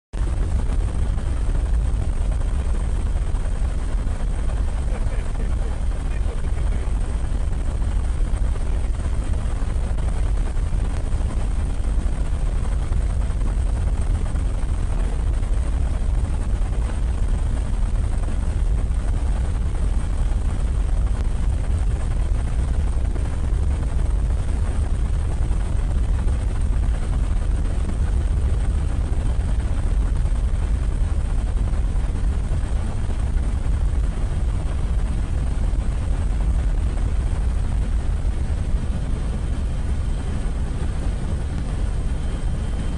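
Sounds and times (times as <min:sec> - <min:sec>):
helicopter running: 0:00.2 - 0:42.9.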